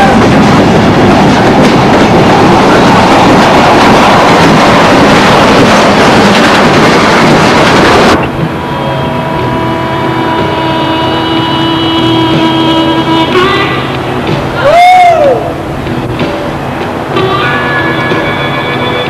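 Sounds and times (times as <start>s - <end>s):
train moving on rails: 0.0s - 19.0s.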